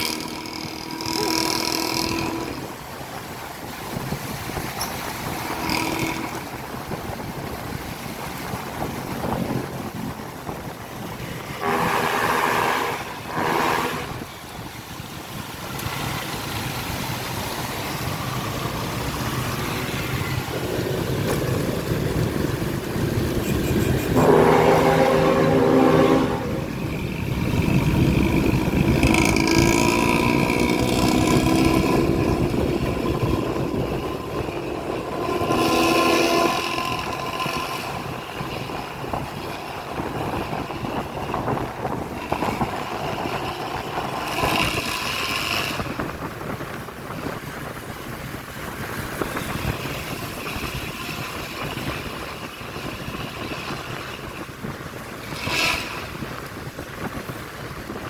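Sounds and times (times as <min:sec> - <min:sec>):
bus diesel engine: 0:00.0 - 0:58.0
road and traffic noise: 0:00.0 - 0:58.0
wind on microphone: 0:00.0 - 0:58.0.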